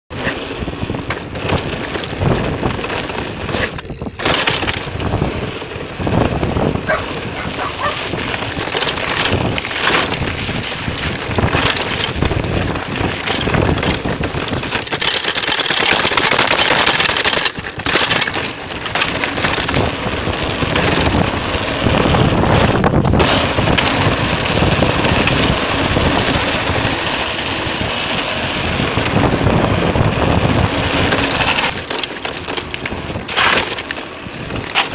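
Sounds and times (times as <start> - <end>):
wind buffeting microphone: 0.1 - 15.1, 15.8 - 34.9
bike rattling over bumps: 0.1 - 34.9
tyres crunching on gravel: 0.2 - 34.9.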